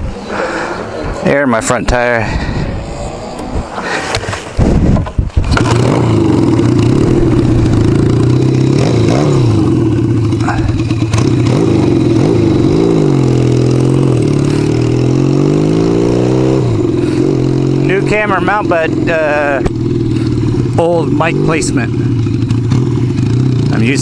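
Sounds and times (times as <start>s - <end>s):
motorcycle engine running: 4.6s - 24.0s.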